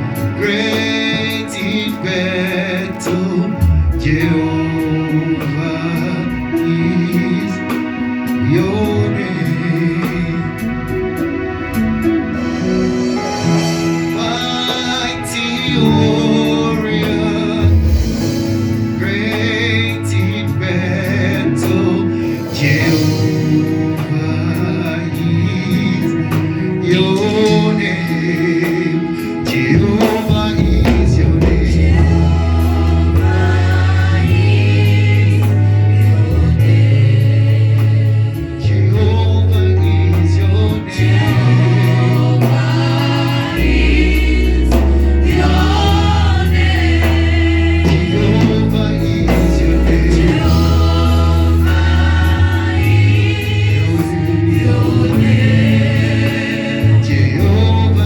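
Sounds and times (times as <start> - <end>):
choir singing gospel: 0.0 - 58.0
heavy bass line: 0.0 - 58.0
percussion: 0.0 - 58.0.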